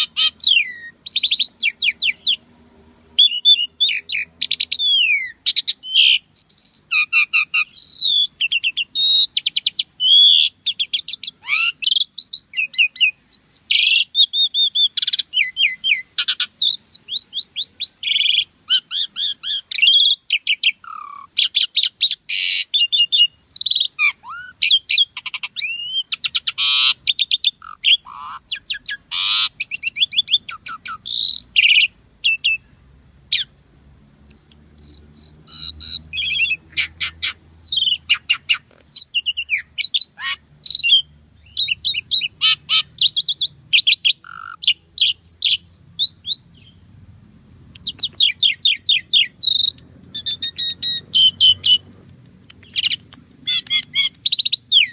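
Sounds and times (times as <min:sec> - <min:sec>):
starling singing: 0:00.0 - 0:33.6, 0:34.3 - 0:46.9, 0:47.8 - 0:54.9.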